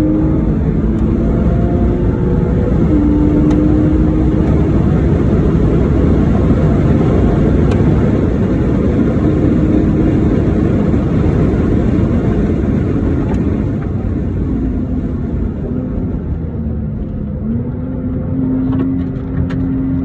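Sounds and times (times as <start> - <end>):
car engine running: 0.0 - 20.0
road and wind noise: 0.0 - 20.0.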